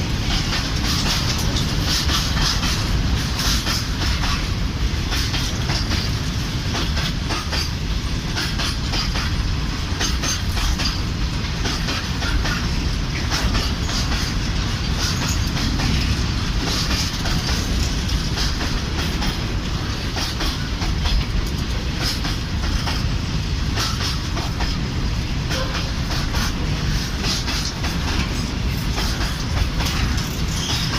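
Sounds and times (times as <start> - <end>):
freight train rumbling past: 0.0 - 30.9
wheels clattering over rail joints: 0.0 - 30.9.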